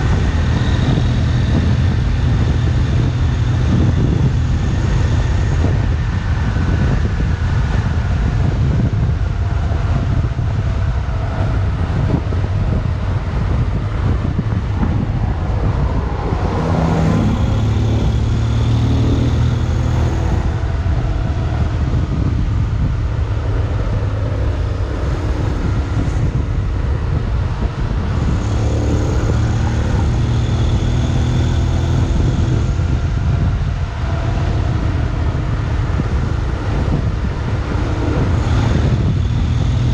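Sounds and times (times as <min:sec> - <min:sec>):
motorcycle engine running: 0:00.0 - 0:39.9
road rumble: 0:00.0 - 0:39.9
wind noise: 0:00.0 - 0:39.9.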